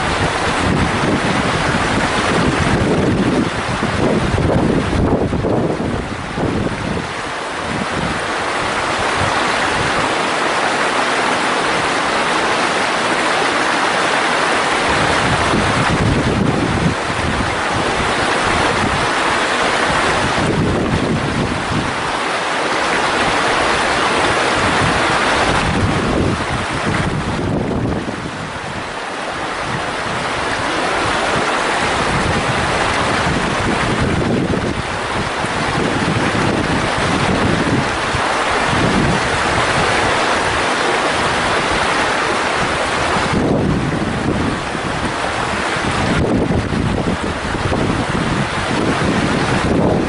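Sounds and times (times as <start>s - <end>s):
stream rushing: 0.0s - 50.0s
wind rumble on microphone: 0.0s - 50.0s.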